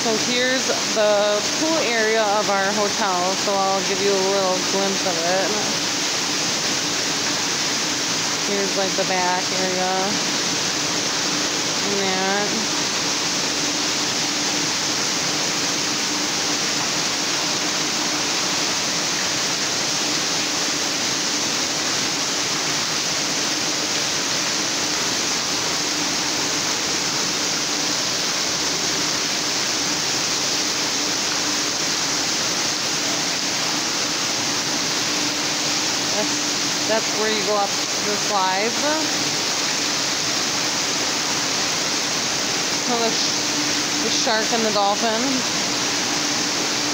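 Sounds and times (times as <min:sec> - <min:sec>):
water spraying and splashing: 0:00.0 - 0:46.9.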